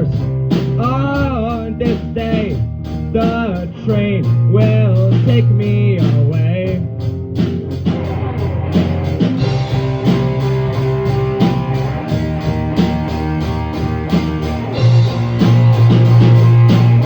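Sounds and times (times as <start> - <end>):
bass guitar: 0.0 - 17.0
drum kit beat: 0.0 - 17.0
electric guitar: 0.0 - 17.0.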